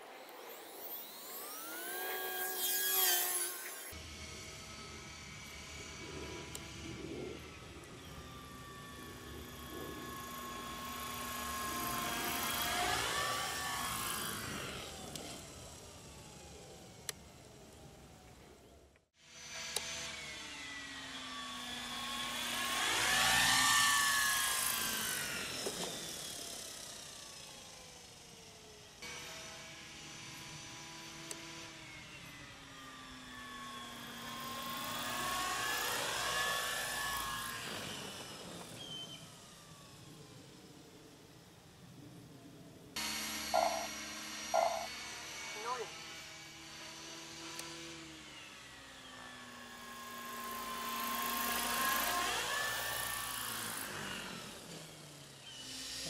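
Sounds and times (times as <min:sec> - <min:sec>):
helicopter rotor blades whooshing: 0:00.0 - 0:18.6, 0:19.4 - 0:56.0
whining tone: 0:00.0 - 0:27.7, 0:29.0 - 0:56.0.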